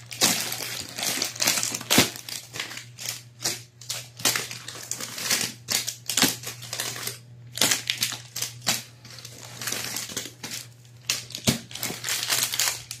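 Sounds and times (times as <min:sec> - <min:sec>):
low steady hum: 0:00.0 - 0:13.0
packaging rustling and crinkling: 0:00.0 - 0:13.0.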